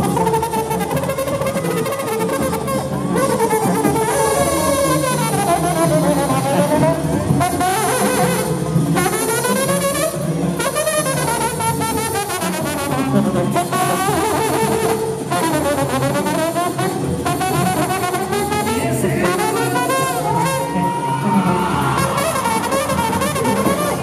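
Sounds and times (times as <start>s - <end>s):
band low accompaniment: 0.0s - 24.0s
trombone solo runs: 0.0s - 24.0s.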